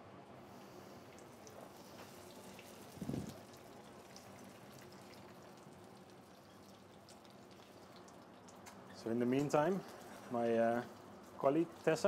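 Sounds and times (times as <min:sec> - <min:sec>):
fish sizzling in oil: 0:01.3 - 0:12.0.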